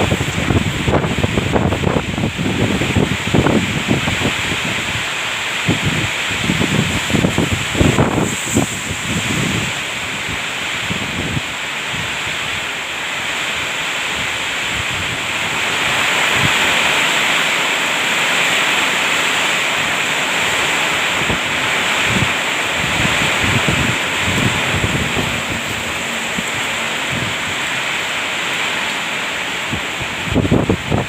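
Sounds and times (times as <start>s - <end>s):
wind buffeting microphone: 0.0s - 12.7s, 13.3s - 31.0s
heavy rain pouring: 0.0s - 31.0s.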